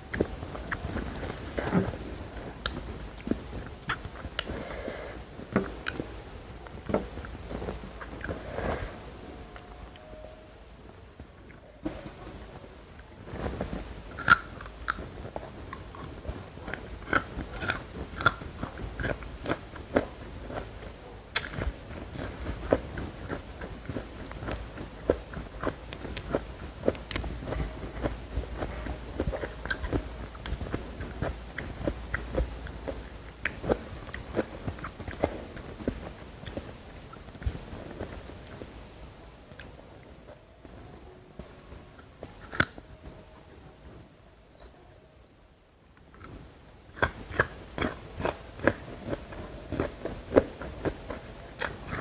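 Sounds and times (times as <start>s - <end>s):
crunchy food chewing: 0.0s - 10.0s, 13.0s - 38.7s, 39.5s - 44.8s, 45.8s - 52.0s.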